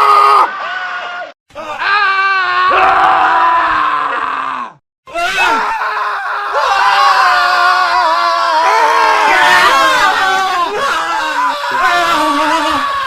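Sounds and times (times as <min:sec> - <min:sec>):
men screaming: 0:00.0 - 0:13.0.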